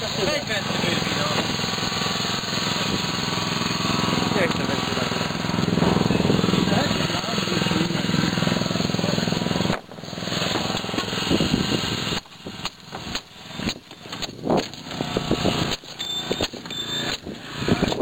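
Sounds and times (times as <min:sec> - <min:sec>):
small petrol engine running: 0:00.0 - 0:18.0.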